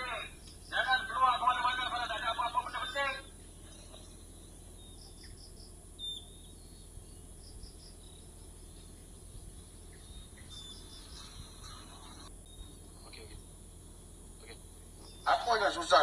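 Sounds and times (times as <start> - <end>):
crickets chirping: 0.0 - 16.0
low hum: 0.0 - 16.0
steady high hiss: 0.0 - 16.0.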